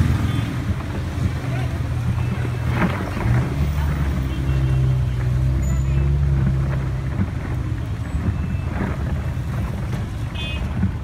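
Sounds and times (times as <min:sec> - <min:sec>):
vehicle engine humming: 0:00.0 - 0:11.0
wind and road noise: 0:00.0 - 0:11.0.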